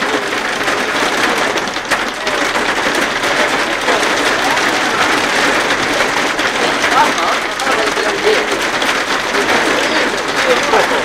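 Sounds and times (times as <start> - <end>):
hailstones pelting down: 0.0 - 11.0.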